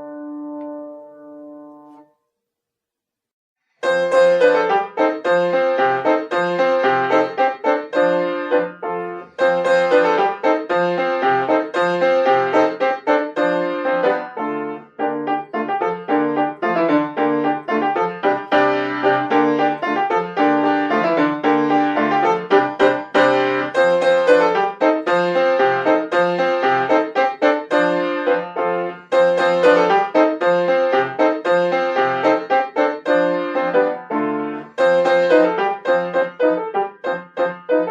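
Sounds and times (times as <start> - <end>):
solo piano dance piece: 0.0 - 2.1, 3.6 - 37.9.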